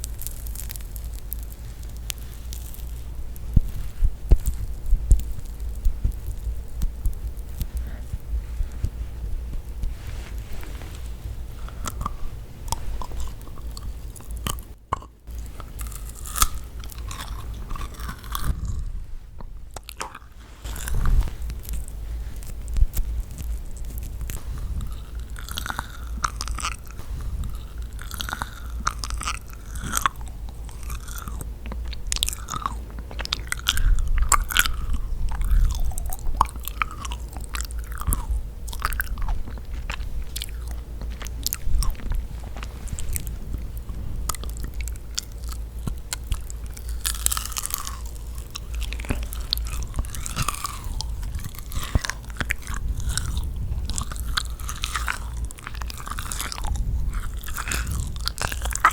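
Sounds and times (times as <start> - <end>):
biting cookie: 0.0 - 10.4, 11.1 - 58.9
sticky mouth clicks: 0.0 - 58.9
wet chewing: 0.0 - 58.9.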